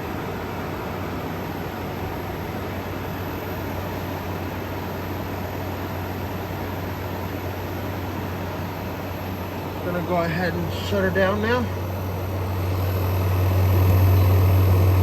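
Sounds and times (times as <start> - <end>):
air conditioner running: 0.0 - 15.0.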